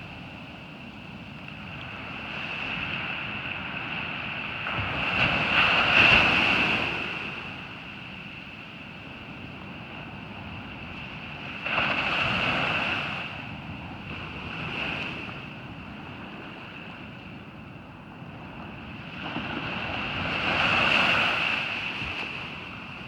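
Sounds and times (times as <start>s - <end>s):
ocean surf washing on beach: 0.0s - 23.0s.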